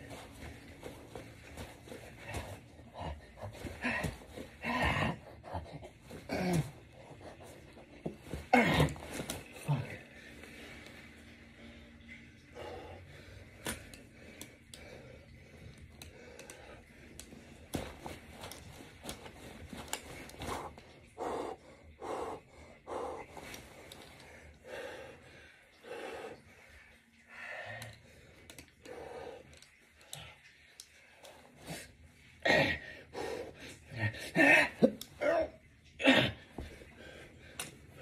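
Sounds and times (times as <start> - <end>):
man breathing hard: 0.0 - 30.6, 31.2 - 34.9.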